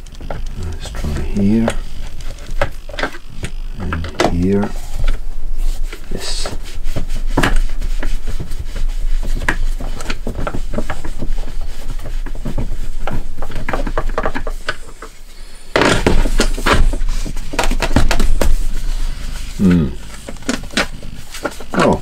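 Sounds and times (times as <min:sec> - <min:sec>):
wooden box rubbing and knocking: 0:00.0 - 0:22.0.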